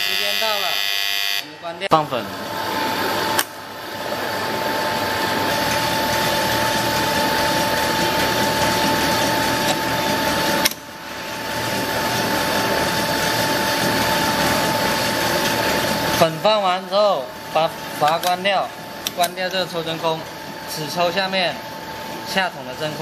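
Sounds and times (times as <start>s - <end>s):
mixer motor and pump hum: 0.0s - 23.0s.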